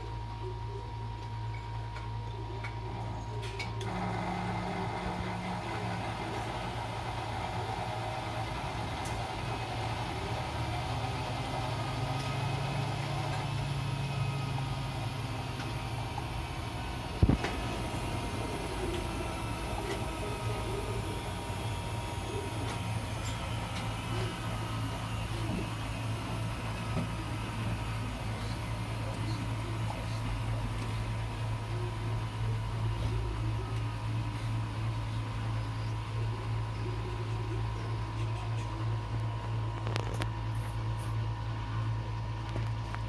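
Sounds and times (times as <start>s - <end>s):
washing machine humming: 0.0s - 43.0s
whirring noise: 2.0s - 41.0s.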